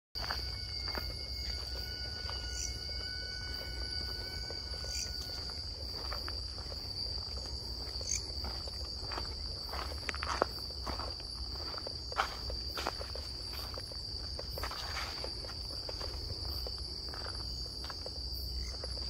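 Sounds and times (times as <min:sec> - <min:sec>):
crickets trilling: 0:00.2 - 0:19.0.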